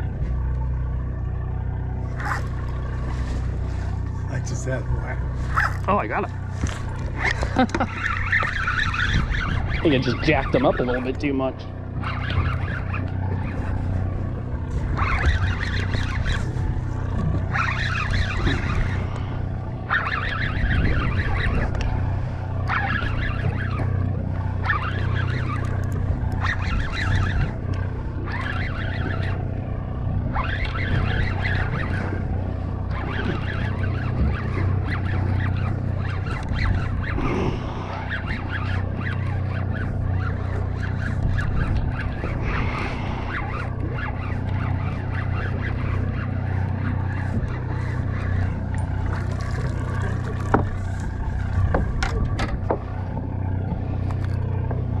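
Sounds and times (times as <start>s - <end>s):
boat engine low drone: 0.0s - 55.0s.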